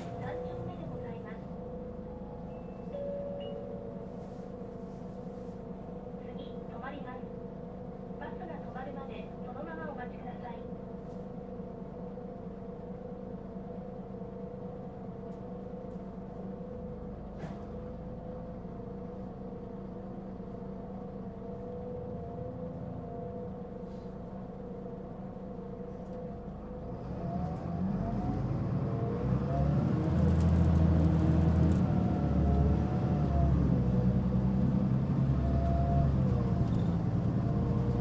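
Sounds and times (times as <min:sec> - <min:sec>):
bus diesel engine: 0:00.0 - 0:38.0.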